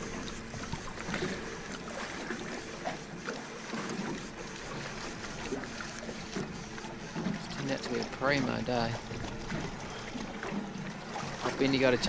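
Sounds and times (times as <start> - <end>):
faint knocks and splashes: 0.0 - 12.0
wind and water around boat: 0.0 - 12.0.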